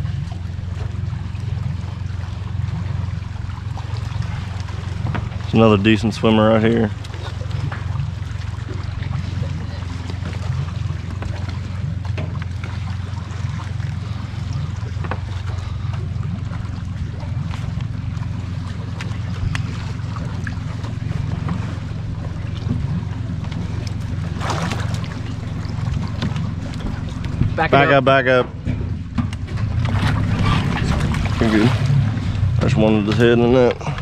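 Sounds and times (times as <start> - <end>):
boat motor idling: 0.0 - 34.0
small water splashes: 0.0 - 34.0.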